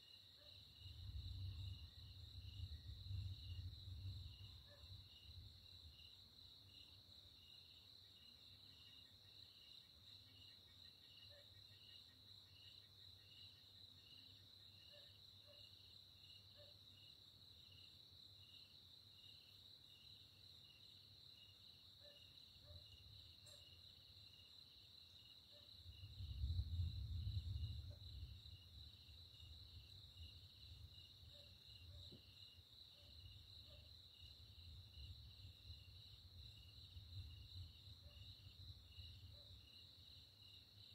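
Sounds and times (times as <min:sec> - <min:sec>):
night insects chirping: 0:00.0 - 0:40.9.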